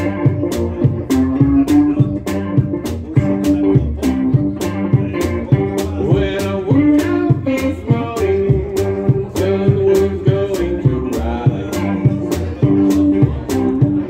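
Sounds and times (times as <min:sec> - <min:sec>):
electric bass: 0:00.0 - 0:14.0
electric guitar blues: 0:00.0 - 0:14.0
steady percussive beat: 0:00.0 - 0:14.0.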